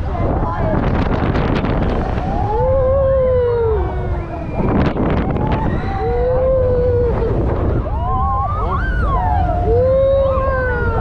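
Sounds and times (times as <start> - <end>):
rushing ride noise: 0.0 - 11.0
wind buffeting microphone: 0.0 - 11.0
wailing tones: 2.0 - 11.0.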